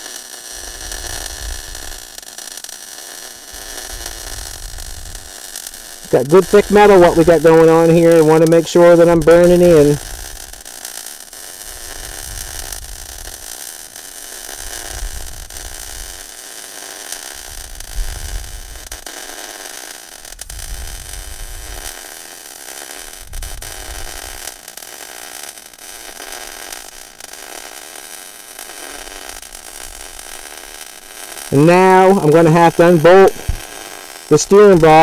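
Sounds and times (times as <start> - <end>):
welding arc crackling hiss: 0.0 - 35.0.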